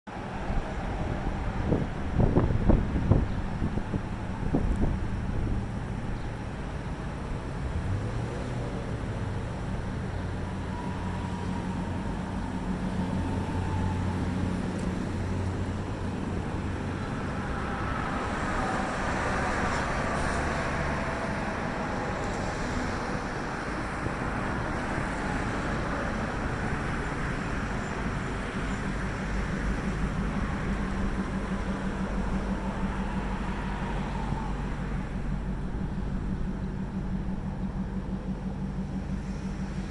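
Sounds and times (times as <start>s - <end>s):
low engine hum: 0.1s - 39.9s.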